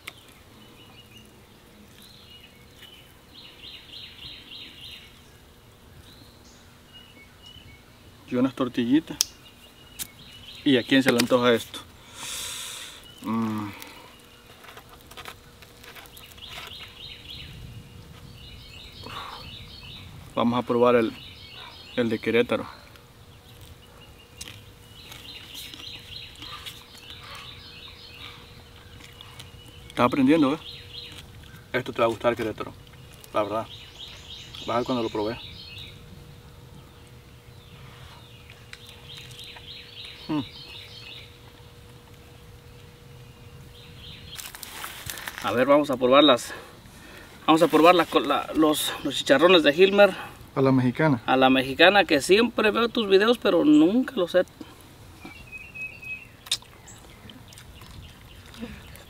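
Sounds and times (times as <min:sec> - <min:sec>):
bird chirping: 0:00.0 - 0:59.0
faint outdoor background noise: 0:00.0 - 0:59.0
faint steady hum: 0:00.0 - 0:59.0.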